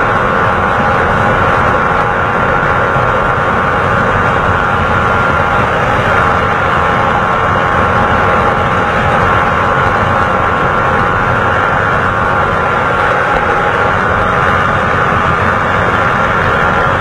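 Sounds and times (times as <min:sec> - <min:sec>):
motorcycle engine cruising: 0:00.0 - 0:17.0
wind rush on microphone: 0:00.0 - 0:17.0.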